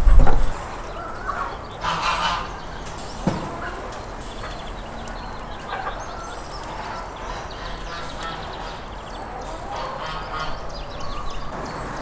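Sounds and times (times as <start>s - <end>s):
outdoor background noise: 0.0s - 12.0s
farmyard birds calling: 0.4s - 12.0s.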